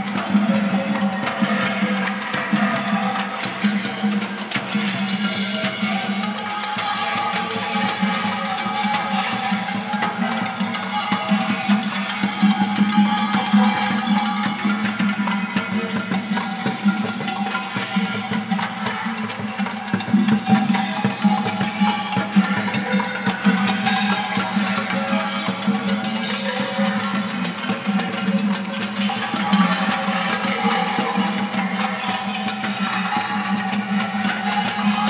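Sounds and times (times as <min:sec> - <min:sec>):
percussion on pots and pans: 0:00.0 - 0:35.0.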